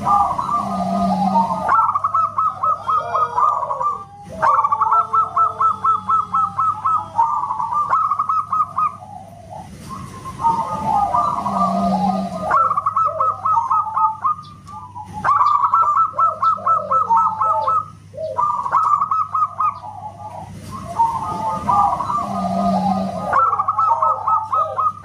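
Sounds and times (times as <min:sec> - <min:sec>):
doves cooing: 0:00.0 - 0:25.0.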